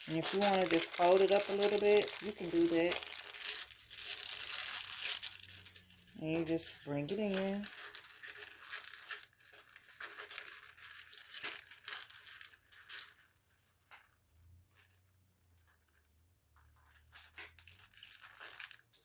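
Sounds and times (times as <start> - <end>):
snack bag crinkling: 0.0 - 16.0, 16.7 - 19.0.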